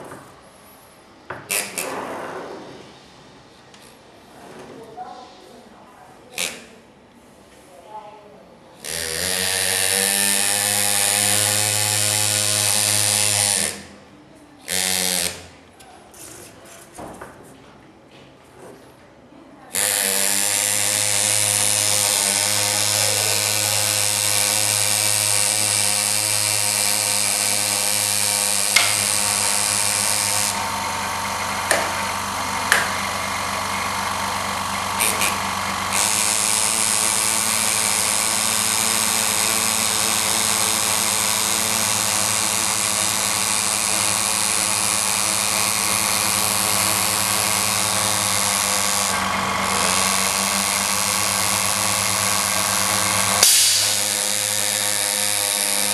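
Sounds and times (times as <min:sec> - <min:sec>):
pneumatic engraver buzzing: 0:00.0 - 0:02.2, 0:06.3 - 0:06.8, 0:08.8 - 0:14.0, 0:14.6 - 0:15.6, 0:19.7 - 0:55.9.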